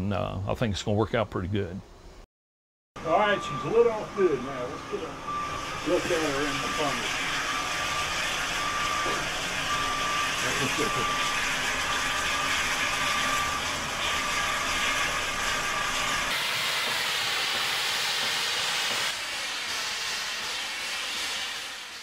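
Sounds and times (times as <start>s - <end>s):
oil burner flame roaring: 3.0s - 22.0s.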